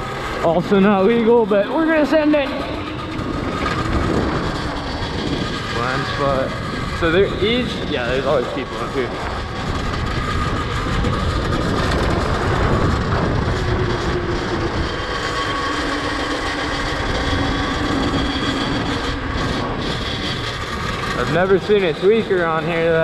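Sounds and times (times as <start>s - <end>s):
faint electric motor whine: 0.0s - 23.0s
wind and road noise: 0.0s - 23.0s.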